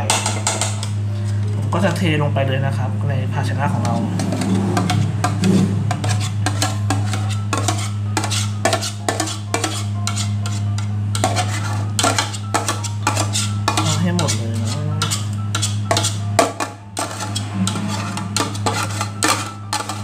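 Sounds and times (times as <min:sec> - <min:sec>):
steady low hum: 0:00.0 - 0:20.0
metal bowl clinking and scraping: 0:03.8 - 0:20.0.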